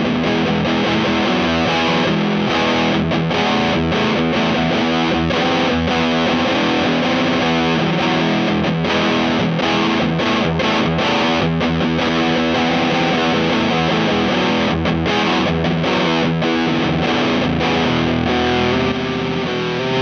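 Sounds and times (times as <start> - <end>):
distorted electric guitar: 0.0 - 20.0.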